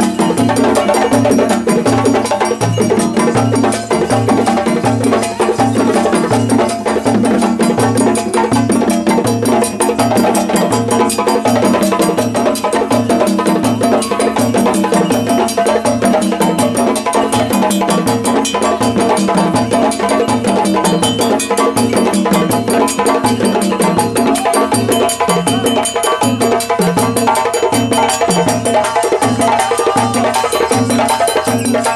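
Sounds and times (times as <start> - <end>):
djembes slapped by hand: 0.0 - 31.9.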